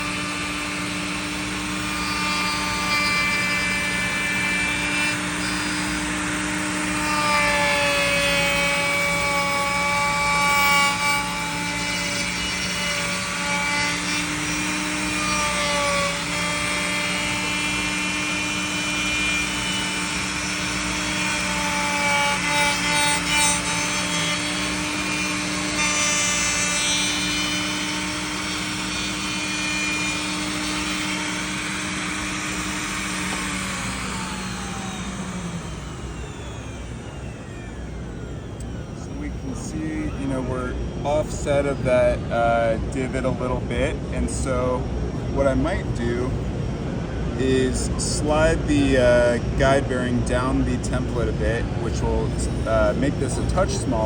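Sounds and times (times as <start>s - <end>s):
wood router whining: 0.0s - 54.0s.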